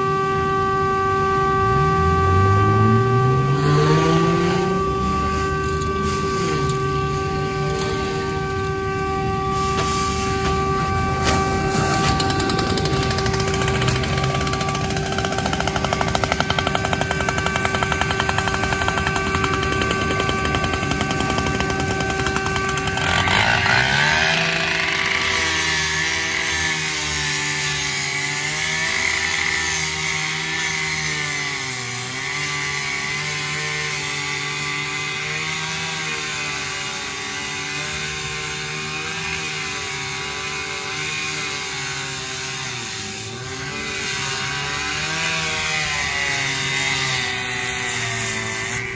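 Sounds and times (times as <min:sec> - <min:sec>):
rotary saw running: 0:00.0 - 0:48.9
saw cutting sheet metal: 0:00.0 - 0:48.9.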